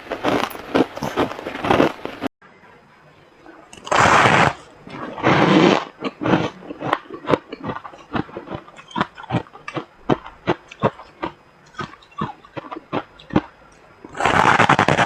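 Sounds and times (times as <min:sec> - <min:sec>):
chewing crunchy ice: 0:00.0 - 0:02.3, 0:03.4 - 0:15.0.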